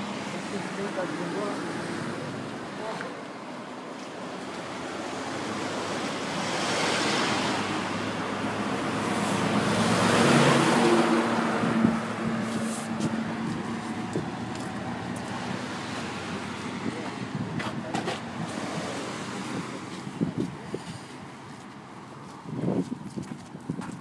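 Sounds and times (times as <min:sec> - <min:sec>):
engine hum: 0:00.0 - 0:22.9
vehicles driving past: 0:00.0 - 0:24.0.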